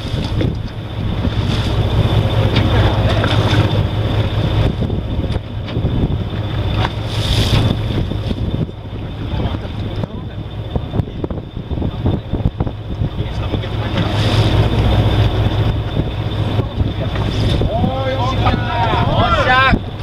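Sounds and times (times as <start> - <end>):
boat engine humming: 0.0 - 20.0
waves washing against hull: 0.0 - 20.0
wind buffeting microphone: 0.0 - 20.0.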